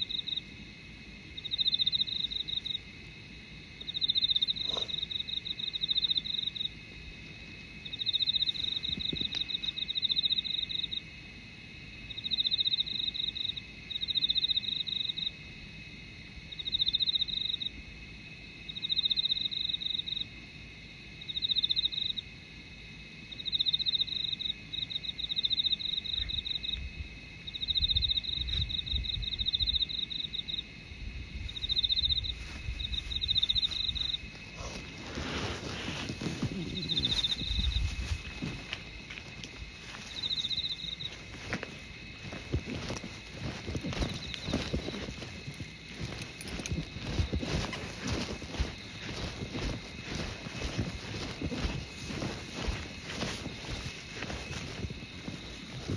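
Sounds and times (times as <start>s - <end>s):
insect high-pitched trills: 0.0s - 55.9s.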